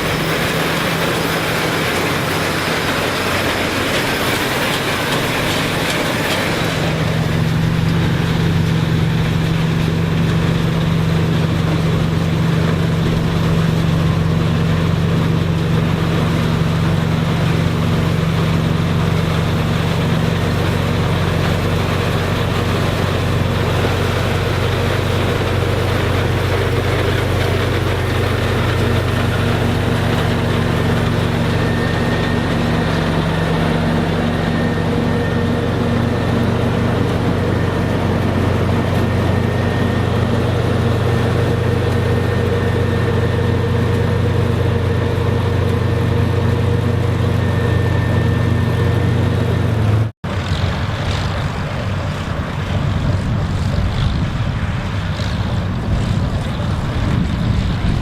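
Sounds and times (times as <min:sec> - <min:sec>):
farm machinery engine running: 0:00.0 - 0:58.0.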